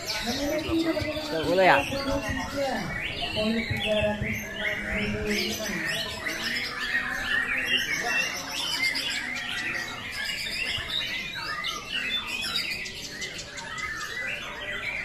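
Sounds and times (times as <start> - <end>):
birds singing chirps and trills: 0.0 - 15.0.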